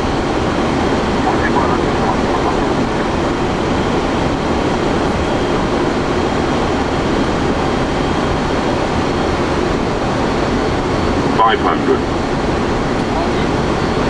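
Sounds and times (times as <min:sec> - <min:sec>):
airflow and engines rushing: 0:00.0 - 0:14.0.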